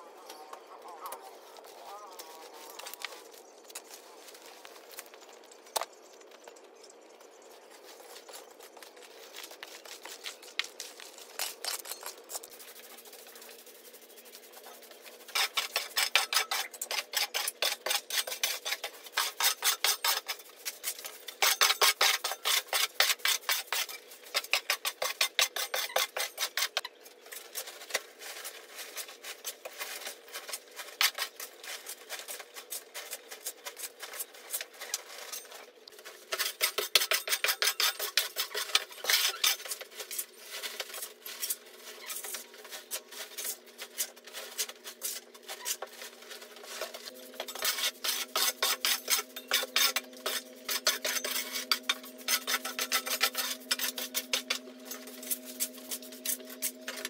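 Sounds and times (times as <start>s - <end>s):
brooms sweeping concrete: 9.0s - 57.0s.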